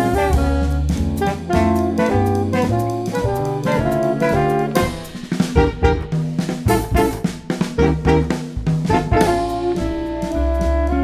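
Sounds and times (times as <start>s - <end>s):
bass: 0.0s - 11.0s
drum kit with cymbals: 0.0s - 11.0s
horn playing melody: 0.0s - 11.0s
saxophone: 0.0s - 11.0s.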